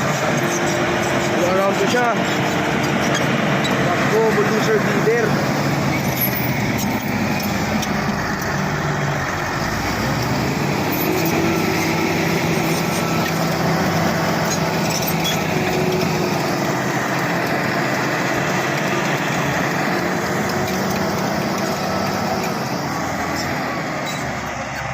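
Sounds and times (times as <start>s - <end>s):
bulldozer diesel engine running: 0.0s - 24.9s.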